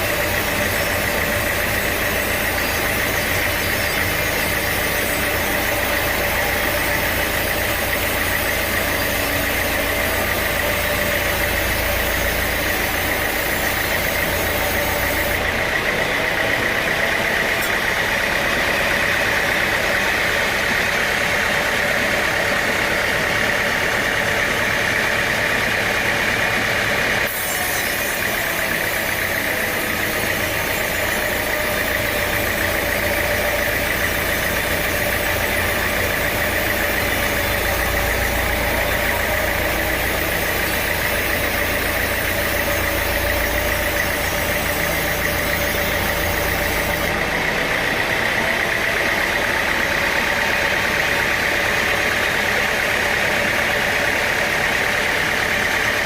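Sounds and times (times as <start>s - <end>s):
high machine whine: 0.0s - 56.0s
sawmill machinery drone: 0.0s - 56.0s.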